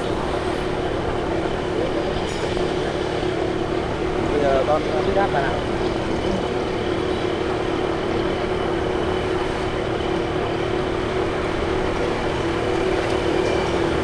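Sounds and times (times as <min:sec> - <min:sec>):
vehicle running noise: 0:00.0 - 0:14.0.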